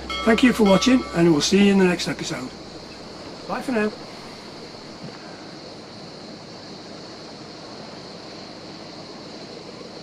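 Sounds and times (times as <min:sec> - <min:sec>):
faint high-pitched hiss: 0:00.0 - 0:10.0
wind: 0:00.0 - 0:10.0.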